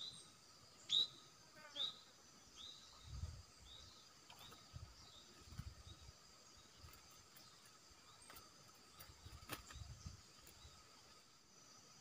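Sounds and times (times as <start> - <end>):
bird chirps: 0.0 - 11.3
insect drone: 0.0 - 12.0.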